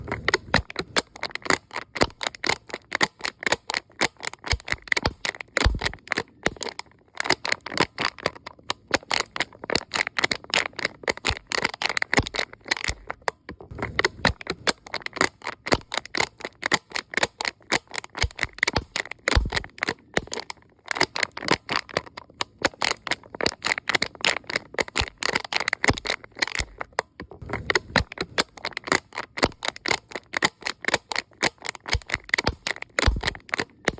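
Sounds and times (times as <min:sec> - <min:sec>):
cup crackling clicks: 0:00.0 - 0:33.9.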